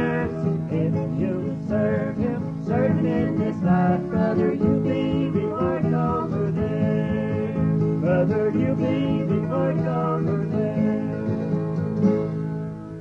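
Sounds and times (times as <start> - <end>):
country song with acoustic guitar: 0.0 - 13.0.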